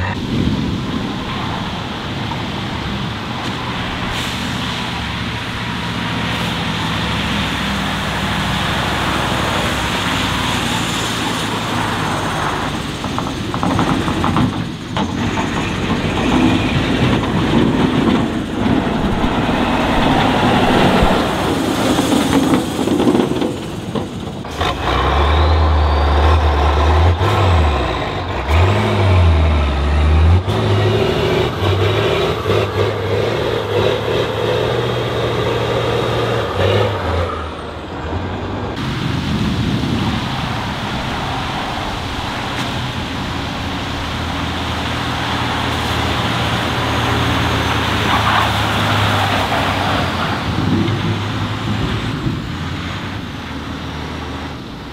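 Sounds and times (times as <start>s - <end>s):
diesel truck engines revving: 0.0s - 54.9s.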